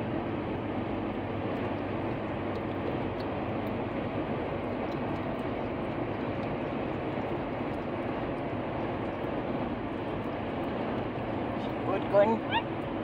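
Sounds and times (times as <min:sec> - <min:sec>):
car road noise rumble and hiss: 0:00.0 - 0:13.0.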